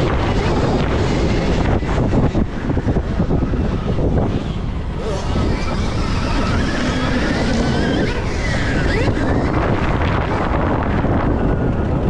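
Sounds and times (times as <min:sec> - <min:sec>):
electric motorbike motor whine: 0:00.0 - 0:12.0
wind buffeting microphone: 0:00.0 - 0:12.0.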